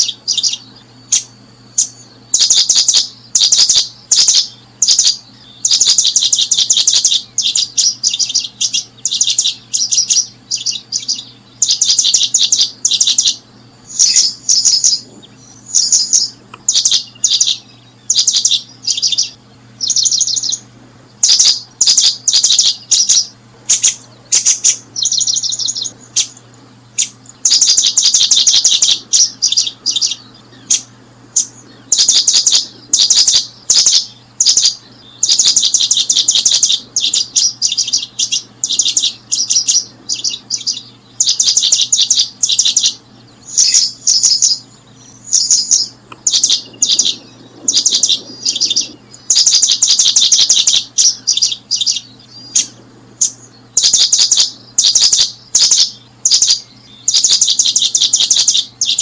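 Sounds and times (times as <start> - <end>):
bird chirping in rapid bursts: 0.0 - 59.0.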